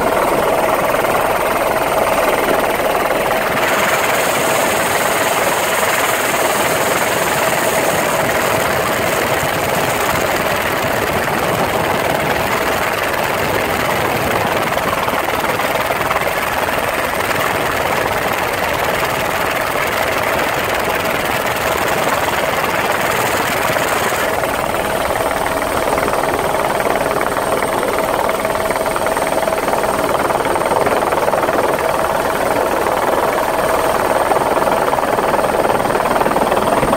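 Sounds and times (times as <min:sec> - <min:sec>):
helicopter rotor and engine: 0:00.0 - 0:36.9.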